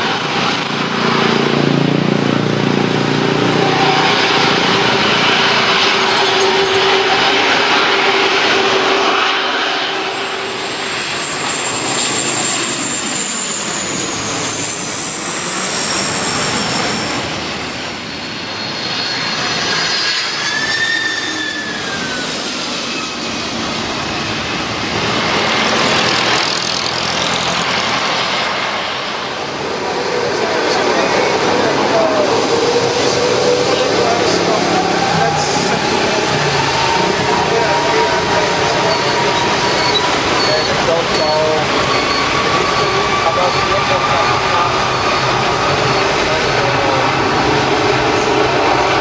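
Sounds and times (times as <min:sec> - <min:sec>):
jet airliner passing: 0:00.0 - 0:49.0.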